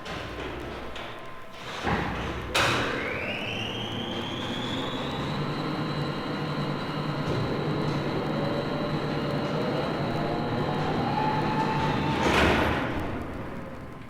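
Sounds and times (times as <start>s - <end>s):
engine whine rising: 2.6s - 14.0s.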